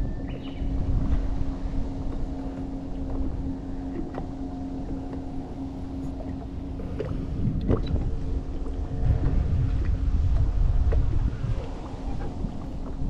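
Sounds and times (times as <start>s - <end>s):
low hum: 0.0s - 13.0s
wind rumbling on microphone: 0.0s - 13.0s.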